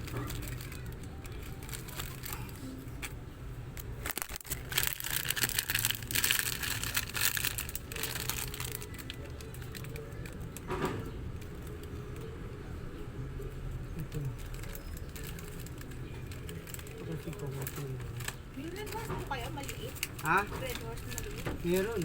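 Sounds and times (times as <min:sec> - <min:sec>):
crinkling and rustling: 0:00.0 - 0:12.4, 0:14.0 - 0:22.0.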